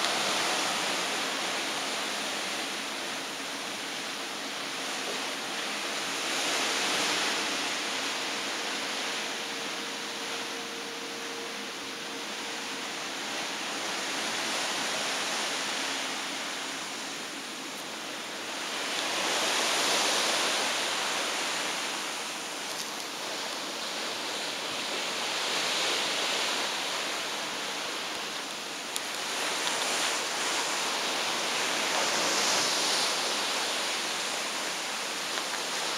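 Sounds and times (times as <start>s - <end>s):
sea water rushing along ship hull: 0.0s - 35.9s.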